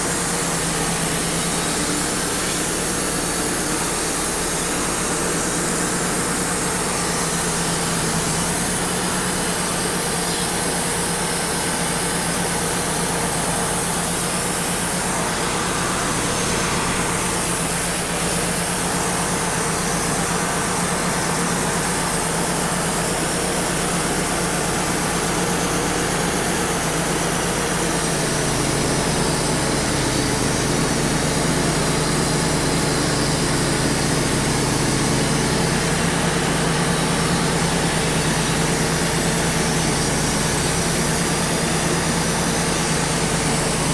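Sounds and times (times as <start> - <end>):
band saw and dust blower rushing: 0.0 - 43.9
sawmill engine drone: 0.0 - 43.9.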